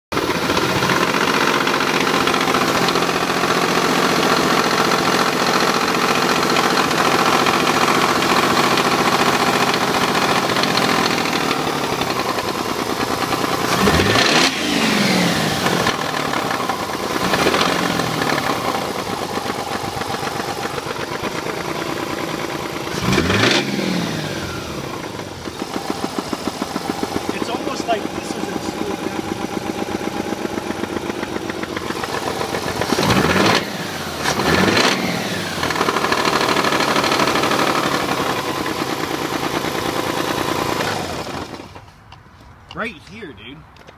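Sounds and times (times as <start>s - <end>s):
rotary engine revving: 0.2s - 41.8s.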